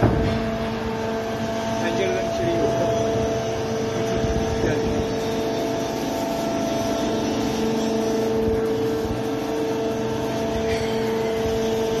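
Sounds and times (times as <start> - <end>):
hydraulic machine hum and whine: 0.0 - 12.0.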